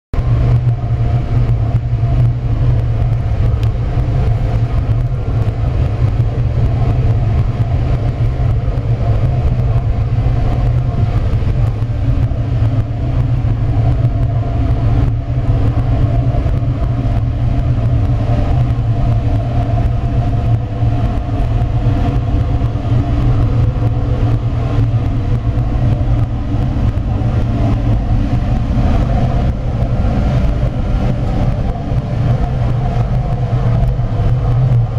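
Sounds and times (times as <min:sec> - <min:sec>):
furnace rumbling with hum: 0:00.1 - 0:34.9.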